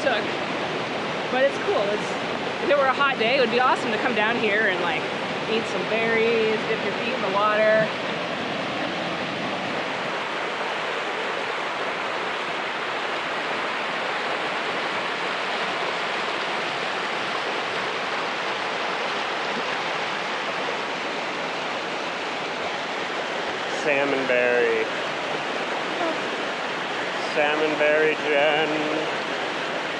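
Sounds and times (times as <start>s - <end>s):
river rushing over boulders: 0.0s - 29.9s.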